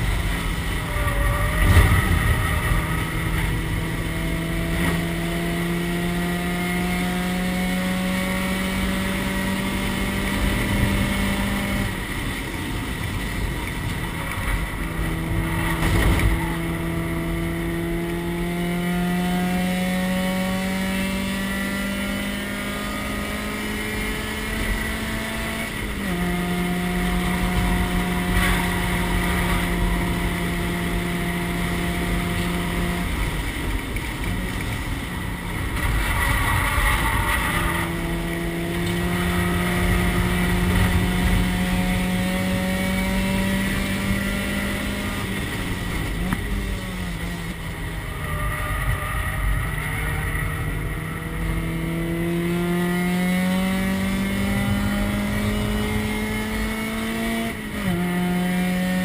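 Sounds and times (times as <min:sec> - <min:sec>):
race car engine: 0:00.0 - 0:59.0
wind and road noise: 0:00.0 - 0:59.0.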